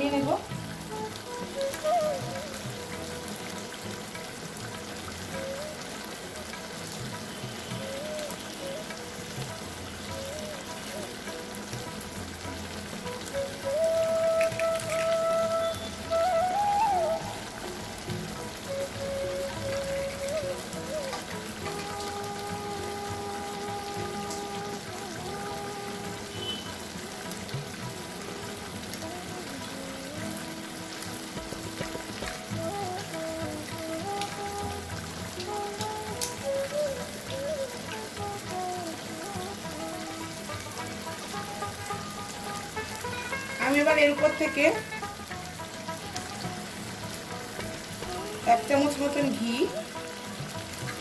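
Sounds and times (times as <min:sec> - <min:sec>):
curry sizzling: 0:00.0 - 0:51.0
faint flute-like music: 0:00.0 - 0:51.0.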